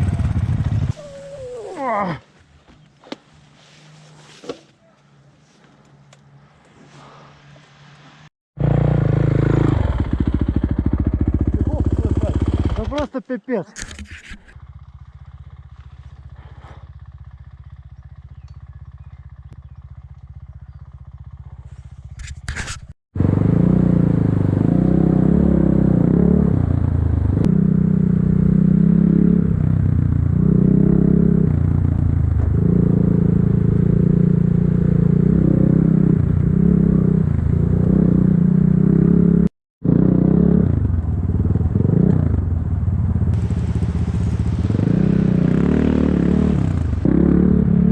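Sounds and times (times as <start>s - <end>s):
motorcycle engine revving: 0.0s - 1.5s, 8.6s - 13.0s, 14.5s - 22.5s, 23.2s - 47.9s.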